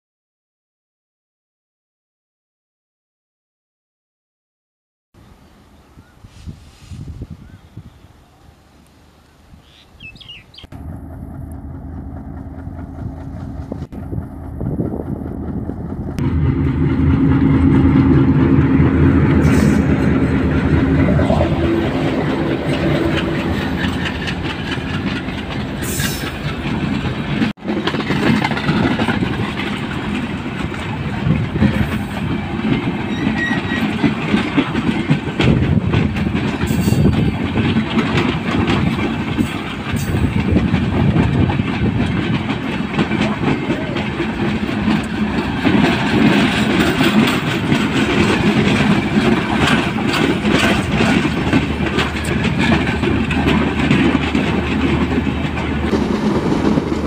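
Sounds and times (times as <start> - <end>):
train wheels rumbling on rails: 10.0 - 57.0.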